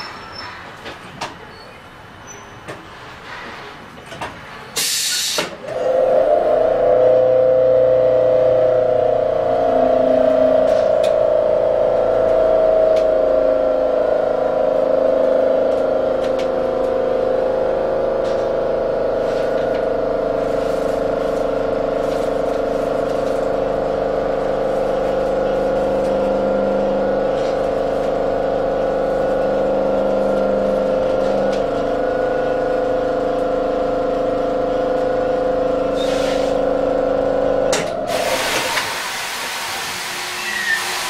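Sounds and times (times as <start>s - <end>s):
tram electrical hum: 0.0s - 41.0s.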